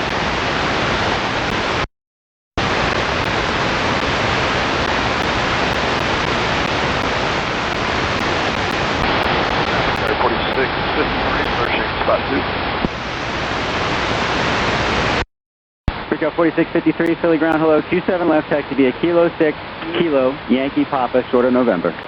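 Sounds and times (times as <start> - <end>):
radio static hiss: 0.0 - 1.9, 2.6 - 15.3, 15.9 - 22.0.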